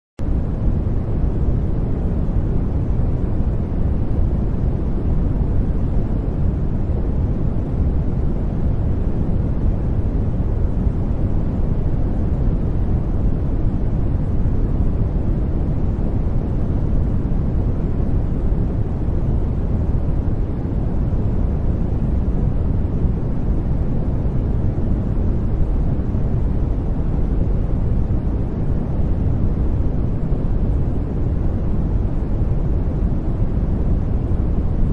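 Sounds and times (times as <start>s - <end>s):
deep white noise hiss: 0.2s - 34.9s.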